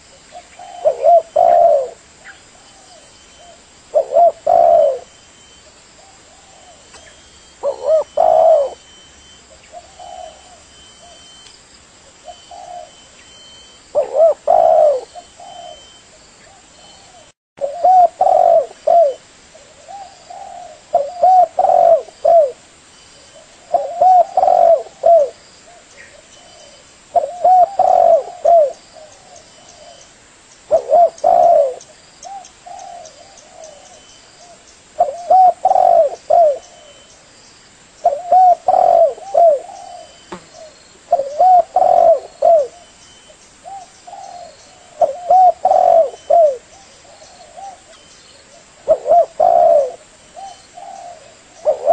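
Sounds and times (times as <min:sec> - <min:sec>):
dove cooing: 0:00.0 - 0:11.4, 0:12.2 - 0:22.6, 0:23.3 - 0:30.1, 0:30.7 - 0:37.1, 0:38.0 - 0:51.9.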